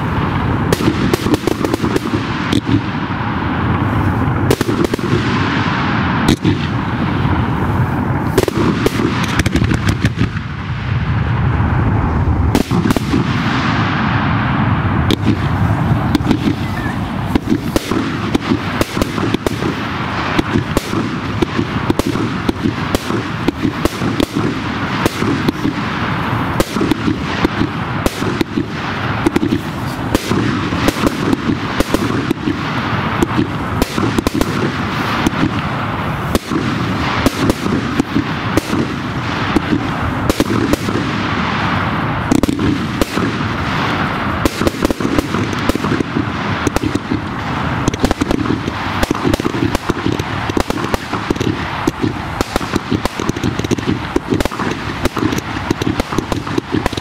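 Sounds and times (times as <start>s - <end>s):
fireworks launching and bursting: 0.0s - 57.0s
rushing crackling noise: 0.0s - 57.0s.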